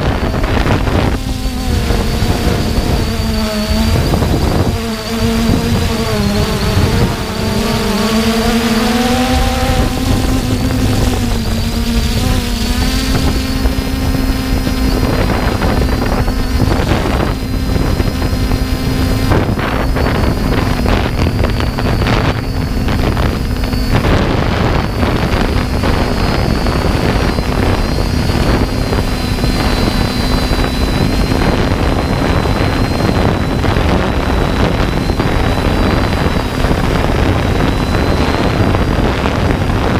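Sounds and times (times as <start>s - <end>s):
drone propellers humming: 0.0s - 39.9s
wind buffeting microphone: 0.0s - 39.9s.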